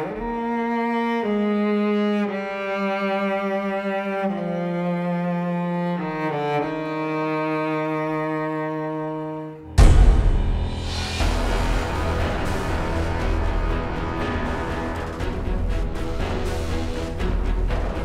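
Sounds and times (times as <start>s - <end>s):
slow background music: 0.0s - 18.0s.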